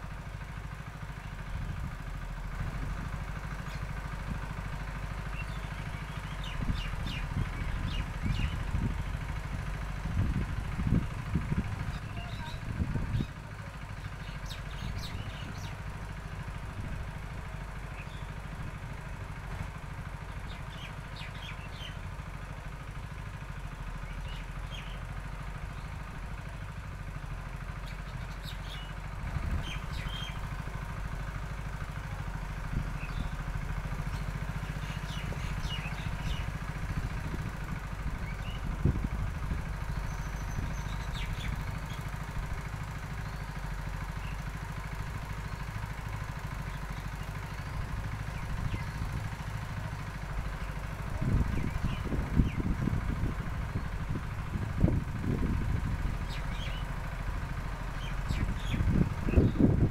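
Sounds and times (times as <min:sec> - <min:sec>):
engine humming: 0:00.0 - 0:59.9
small birds chirping: 0:03.0 - 0:04.2, 0:04.8 - 0:09.4, 0:10.2 - 0:16.6, 0:17.4 - 0:22.6, 0:23.9 - 0:26.5, 0:27.6 - 0:31.0, 0:31.9 - 0:55.2, 0:56.1 - 0:59.8.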